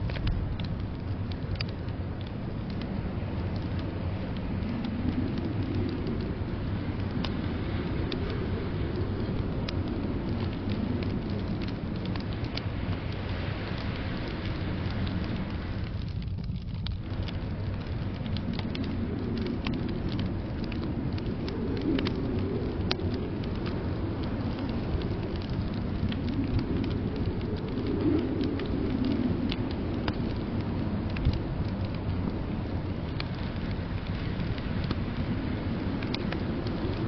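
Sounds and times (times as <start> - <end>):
blizzard wind rushing: 0.0 - 37.0
wood fire crackling: 0.0 - 37.0.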